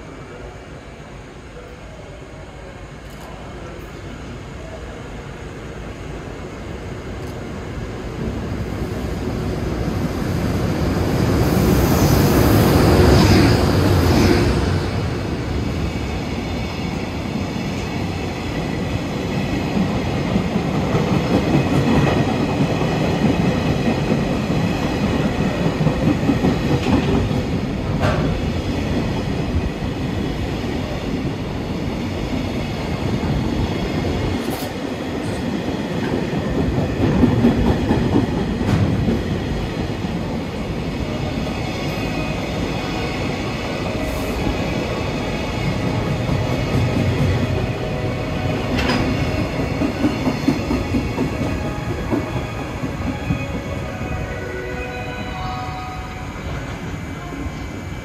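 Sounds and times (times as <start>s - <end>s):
electric locomotive passing: 0.0s - 58.0s
wheels rumbling on rail: 8.1s - 58.0s.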